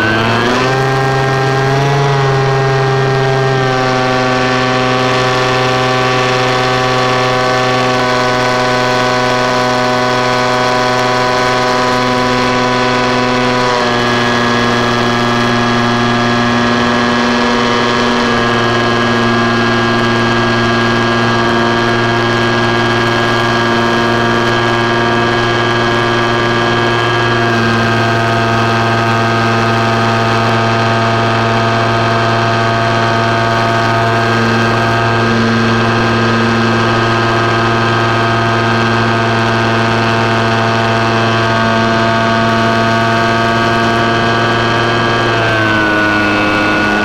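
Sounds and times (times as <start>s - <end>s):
model plane motor drone: 0.0s - 47.0s.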